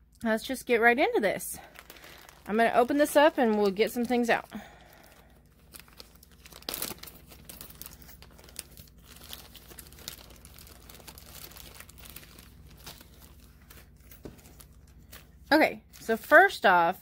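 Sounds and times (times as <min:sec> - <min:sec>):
paper and plastic bags crinkling: 0:00.9 - 0:16.8.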